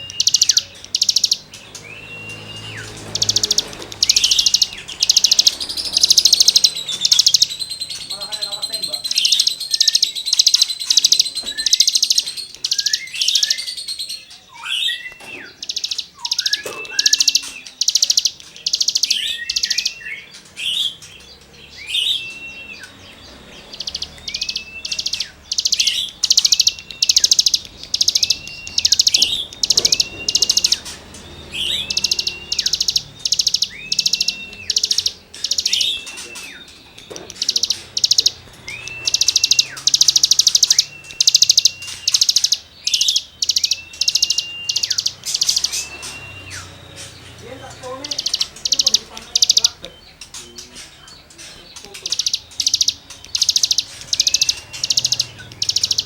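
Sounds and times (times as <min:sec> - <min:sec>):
bird singing harsh rasping buzzes: 0:00.0 - 0:56.0
bird whistled notes: 0:00.0 - 0:56.0.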